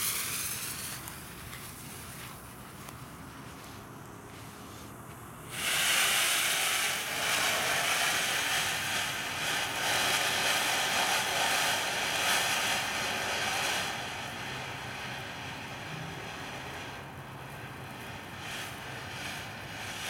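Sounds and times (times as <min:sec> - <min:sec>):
firework fountain hissing: 0:00.0 - 0:20.0.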